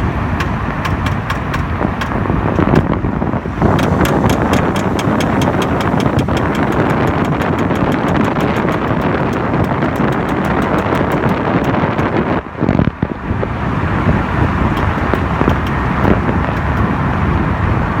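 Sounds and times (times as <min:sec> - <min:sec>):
road and wind noise: 0:00.0 - 0:18.0
rapid knocking from car driveline: 0:00.2 - 0:12.2, 0:14.5 - 0:17.0.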